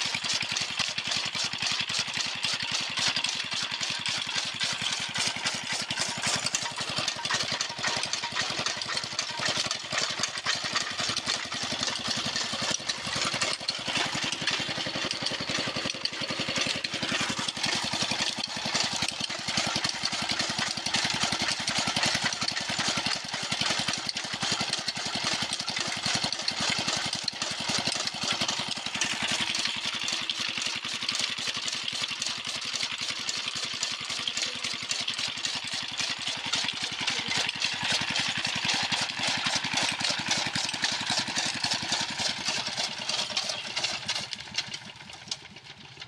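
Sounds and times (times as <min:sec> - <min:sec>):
chaff cutter chopping fodder: 0:00.0 - 0:46.0
diesel engine chugging: 0:00.0 - 0:46.0.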